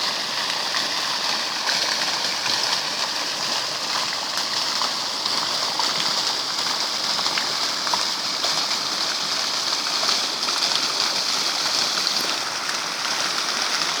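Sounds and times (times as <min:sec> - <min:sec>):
water drips and splashes: 0:00.0 - 0:14.0.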